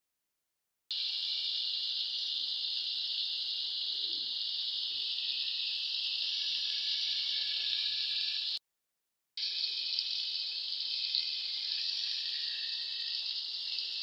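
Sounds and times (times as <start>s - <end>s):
vegetables sizzling in oil: 0.9s - 8.6s, 9.4s - 14.0s.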